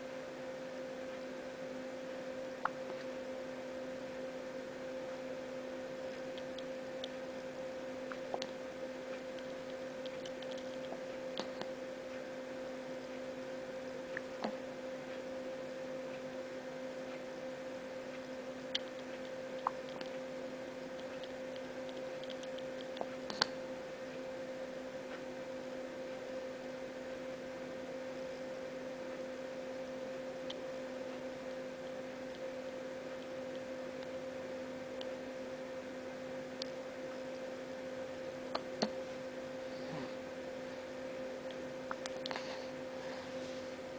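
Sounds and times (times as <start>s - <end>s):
steady hum: 0.0s - 43.9s.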